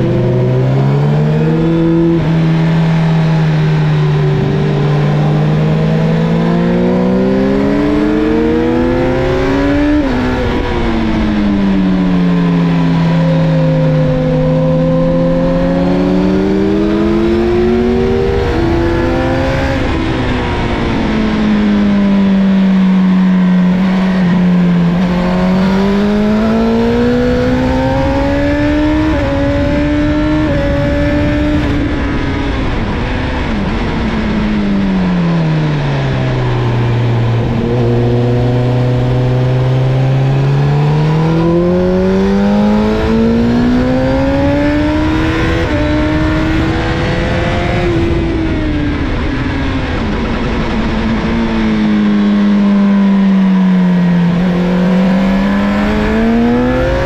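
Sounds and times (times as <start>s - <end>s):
wind rush: 0.0s - 52.7s
motorcycle engine accelerating: 0.0s - 57.0s.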